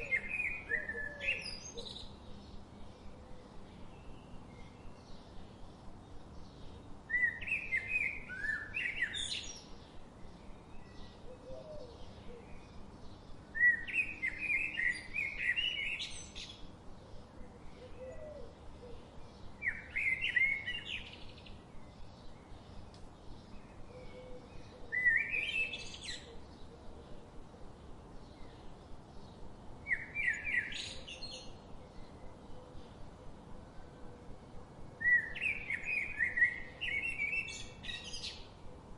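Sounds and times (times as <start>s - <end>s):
faint steady hiss: 0.0s - 38.9s
songbird singing: 0.0s - 38.9s.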